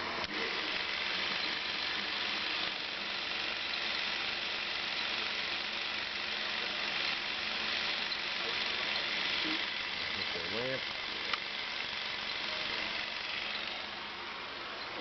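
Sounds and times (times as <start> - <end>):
film projector running: 0.0 - 15.0.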